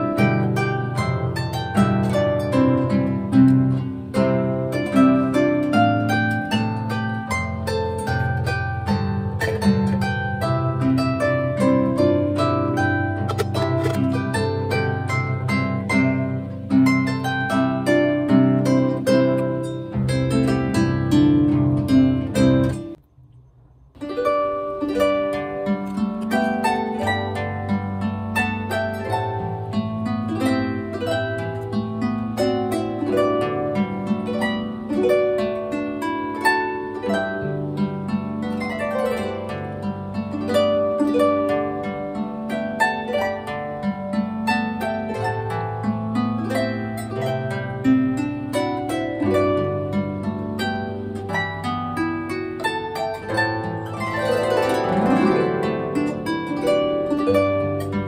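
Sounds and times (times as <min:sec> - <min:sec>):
harp music: 0:00.0 - 0:58.0.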